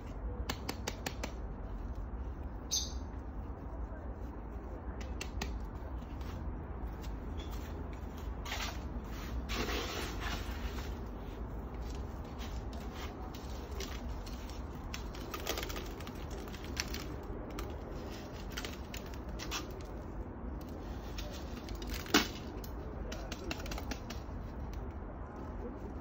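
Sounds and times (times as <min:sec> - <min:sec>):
potted plant handling clicks and rustles: 0:00.0 - 0:26.0.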